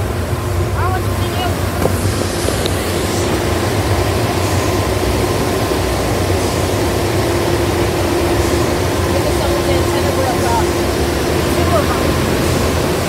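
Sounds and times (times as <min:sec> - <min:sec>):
car wash machinery drone: 0:00.0 - 0:13.0.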